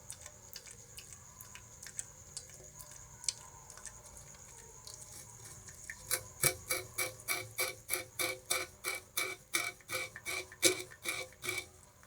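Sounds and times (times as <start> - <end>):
rat gnawing sugarcane: 0.0 - 12.0.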